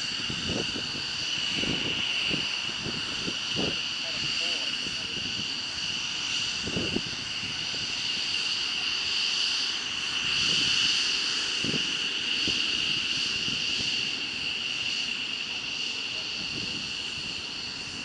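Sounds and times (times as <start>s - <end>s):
jet engine whine: 0.0s - 18.0s.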